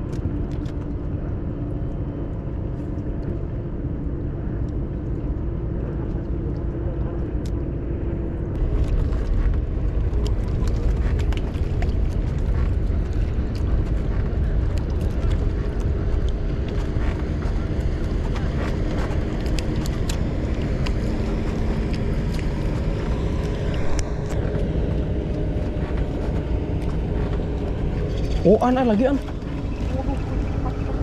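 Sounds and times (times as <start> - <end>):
boat engine humming: 0.0 - 31.0
wind rumble on microphone: 0.0 - 31.0.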